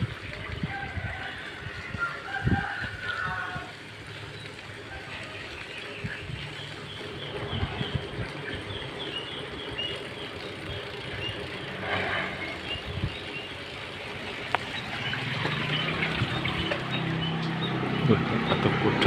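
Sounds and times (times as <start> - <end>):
road and engine noise: 0.0 - 19.0.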